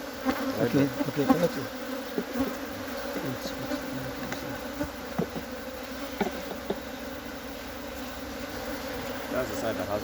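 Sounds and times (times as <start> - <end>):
honeybees buzzing: 0.0 - 10.0.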